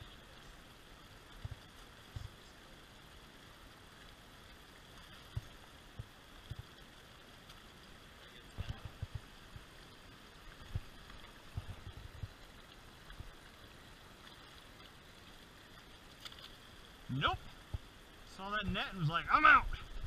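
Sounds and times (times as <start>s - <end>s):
creek water rushing over stones: 0.0s - 20.0s.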